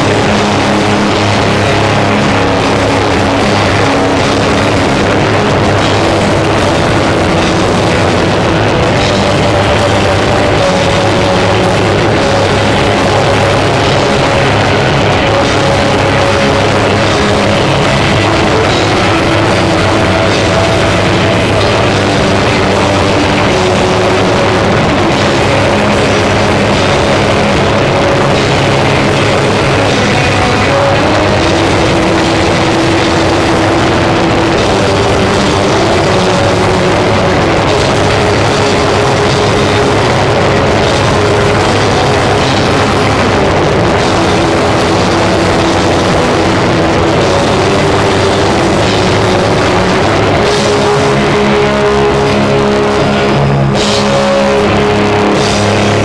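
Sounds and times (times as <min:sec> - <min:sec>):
noise-rock band playing: 0:00.0 - 0:56.0.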